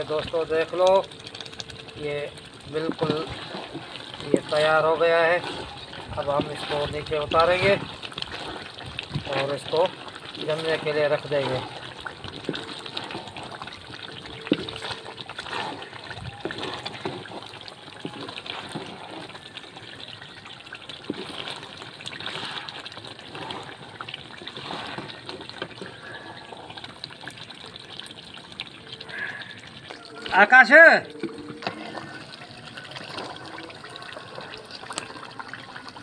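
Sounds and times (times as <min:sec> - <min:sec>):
halwa bubbling and sizzling in oil: 0:00.0 - 0:36.0.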